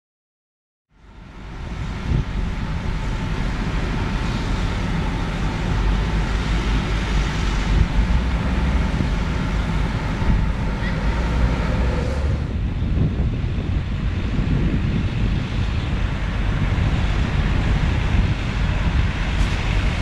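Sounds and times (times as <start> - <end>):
mechanical rumble with hiss: 1.0 - 20.0.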